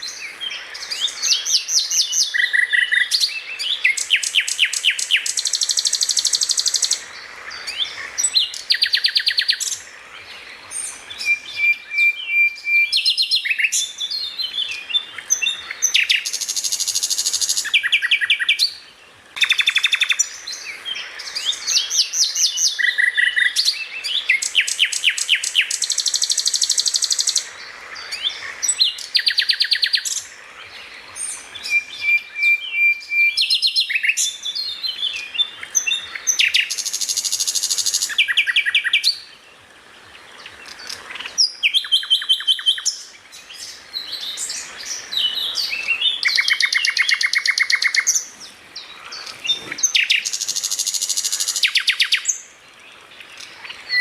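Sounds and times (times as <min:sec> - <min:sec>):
songbird trilling: 0:00.0 - 0:09.9, 0:10.8 - 0:18.8, 0:19.4 - 0:30.3, 0:31.2 - 0:39.3, 0:40.6 - 0:52.5.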